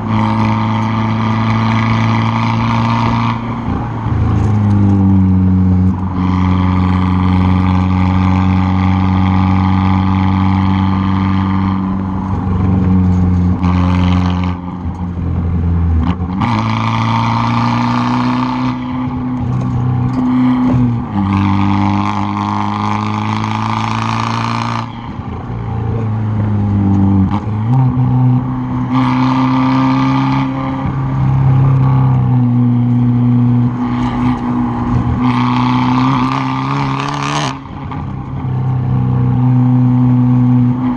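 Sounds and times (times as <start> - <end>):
car exhaust revving: 0.0 - 40.9.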